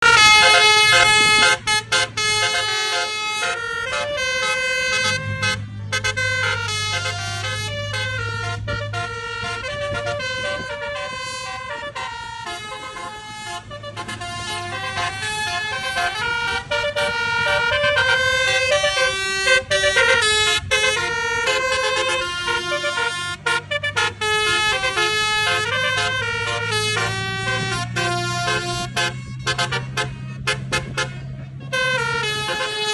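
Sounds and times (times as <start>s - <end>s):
multi-trumpet air horn tune: 0.0s - 32.9s.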